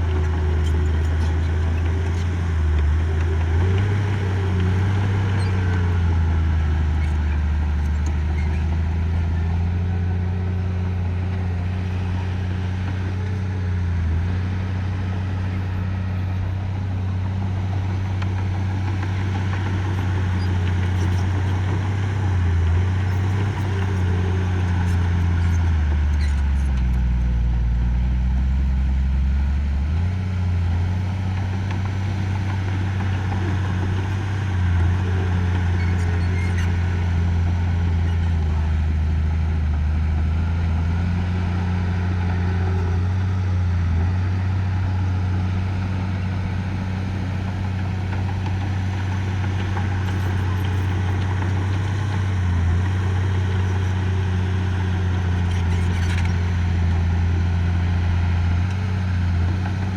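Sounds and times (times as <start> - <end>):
diesel engine working: 0.0 - 59.9.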